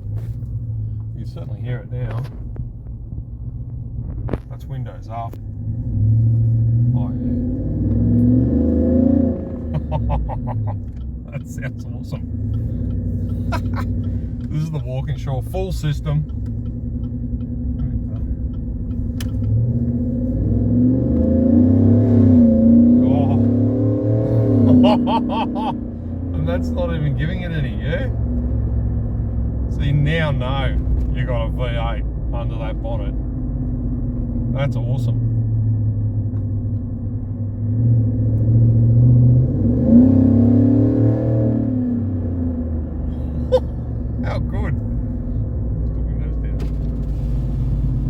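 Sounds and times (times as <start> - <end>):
truck engine droning: 0.0 - 48.0.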